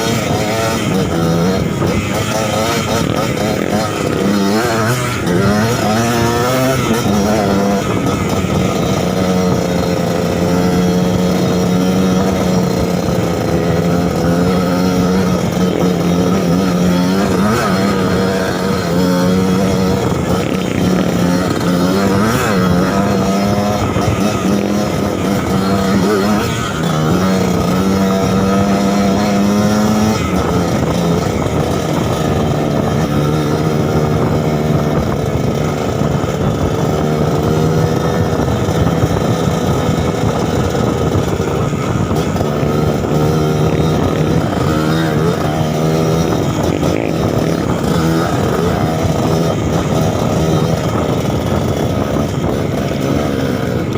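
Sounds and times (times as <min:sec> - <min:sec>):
two-stroke motorcycle engine running: 0:00.0 - 0:53.9.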